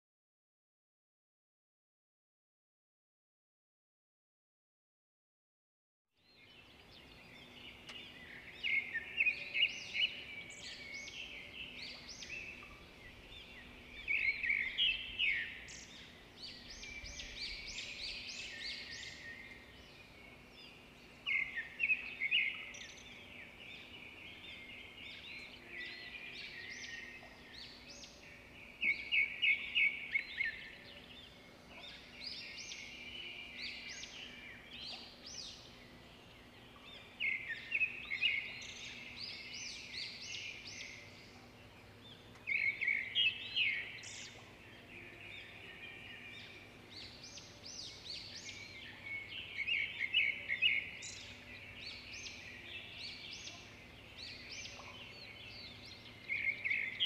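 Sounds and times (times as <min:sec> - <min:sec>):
birds chirping and twittering: 0:06.2 - 0:57.0.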